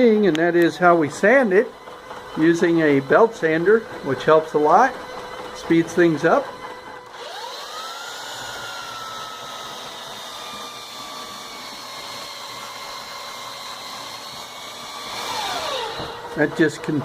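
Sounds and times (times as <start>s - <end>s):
belt sander motor whine: 0.0s - 17.0s.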